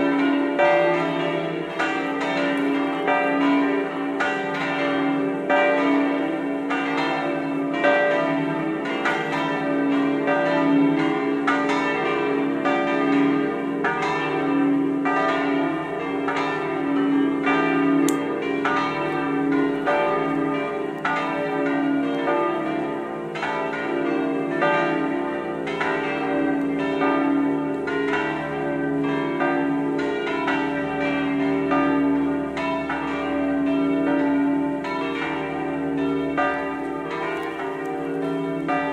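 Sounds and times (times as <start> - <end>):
church bells ringing in peal: 0.0 - 38.9.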